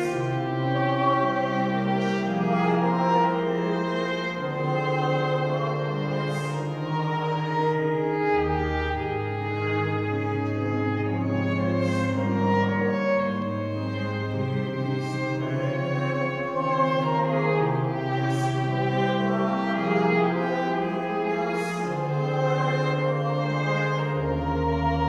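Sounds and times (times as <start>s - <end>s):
slow instrumental hymn music: 0.0s - 25.0s.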